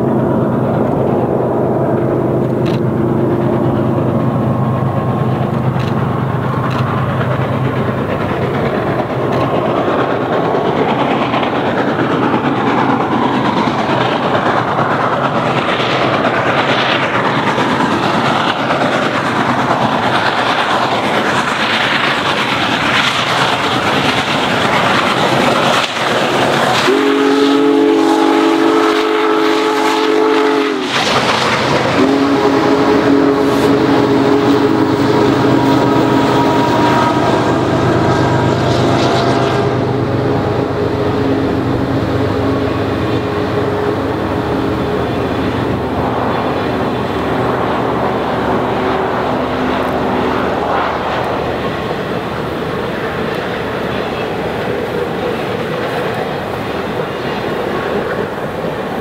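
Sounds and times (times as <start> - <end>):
wheels on rails: 0.0 - 30.0, 30.8 - 59.0
steam locomotive exhaust: 0.0 - 59.0.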